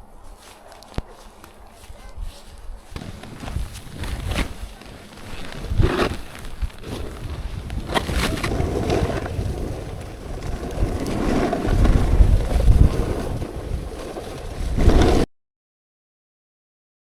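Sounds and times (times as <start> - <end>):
wind buffeting microphone: 0.0 - 15.3
snowboard sliding on snow: 1.2 - 15.3.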